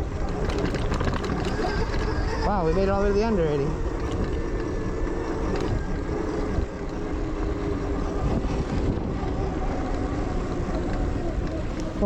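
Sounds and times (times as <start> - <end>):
electric motor whine: 0.0 - 12.0
tyres and wind rumble: 0.0 - 12.0.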